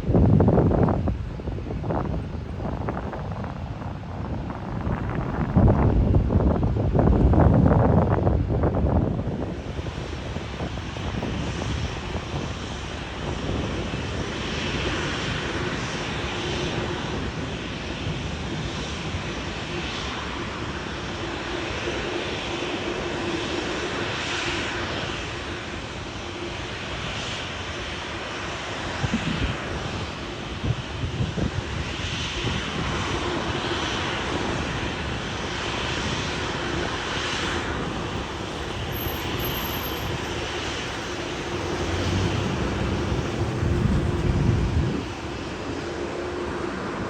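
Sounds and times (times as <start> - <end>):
jet engines running: 0.0 - 47.0.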